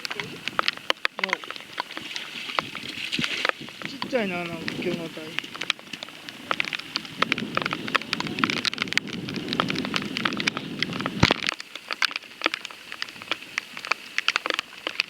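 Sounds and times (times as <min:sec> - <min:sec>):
heavy rain drops tapping: 0:00.0 - 0:15.0.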